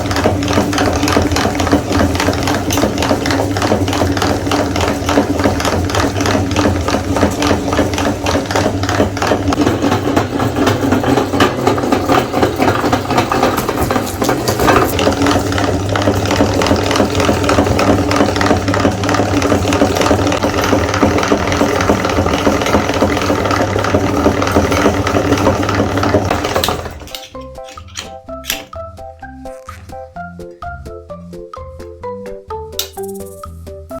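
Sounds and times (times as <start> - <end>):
meat grinder motor humming: 0.0 - 28.6
rapid clicking rattle: 0.0 - 28.7.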